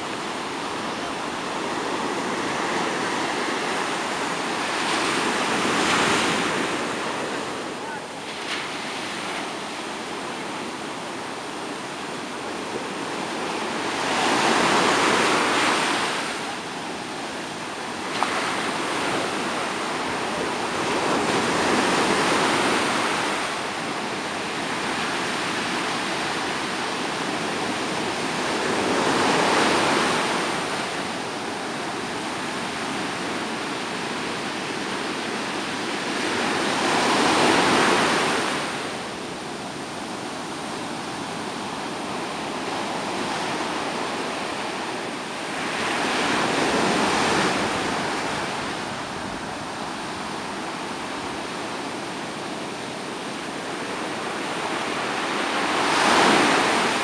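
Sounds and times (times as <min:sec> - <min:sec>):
stormy sea waves breaking: 0:00.0 - 0:57.0.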